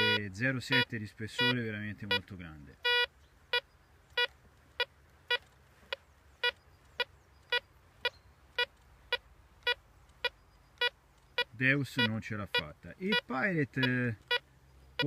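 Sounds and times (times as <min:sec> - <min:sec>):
metal detector beeps: 0:00.0 - 0:15.0.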